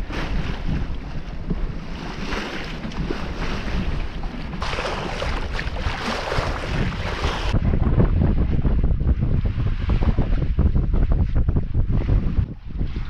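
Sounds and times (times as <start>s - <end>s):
sea water rushing along hull: 0.0s - 13.0s
wind buffeting microphone: 0.0s - 13.0s.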